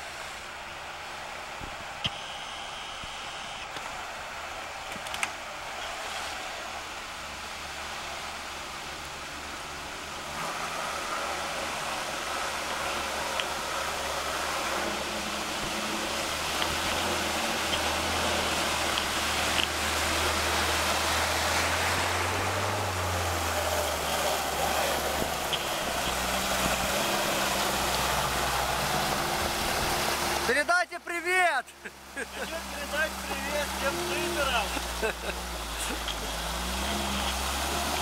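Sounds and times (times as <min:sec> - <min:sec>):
water rushing and splashing: 0:00.0 - 0:38.0
car engine running: 0:03.7 - 0:30.6, 0:31.7 - 0:38.0.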